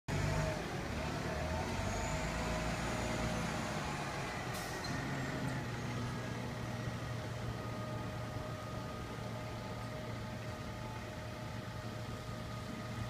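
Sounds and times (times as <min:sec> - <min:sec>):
truck engine rumbling: 0:00.1 - 0:13.0.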